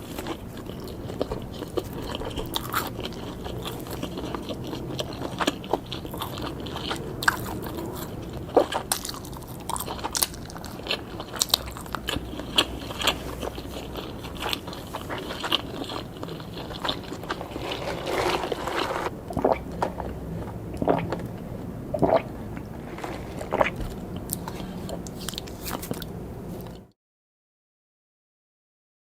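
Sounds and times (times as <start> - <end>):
chewing and biting food: 0.0 - 26.9.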